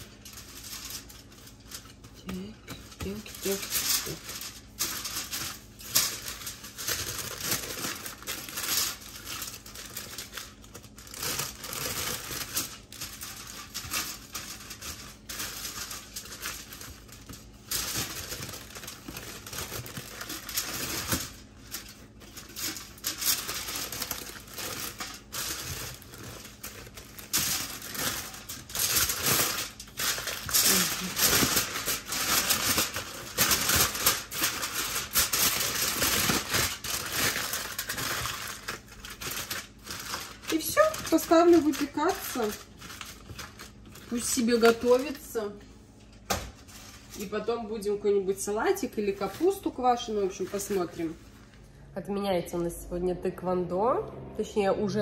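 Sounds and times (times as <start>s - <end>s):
kitchen wrapping crinkling: 0.0s - 51.8s.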